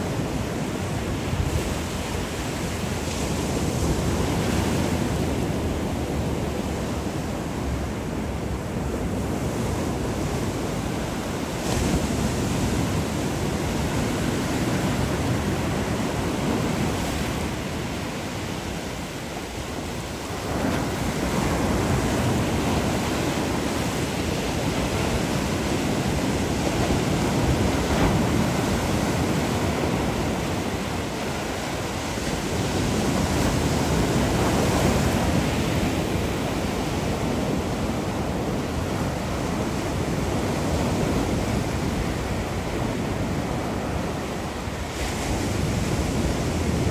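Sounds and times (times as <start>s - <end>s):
sea waves breaking on beach: 0.0s - 46.9s.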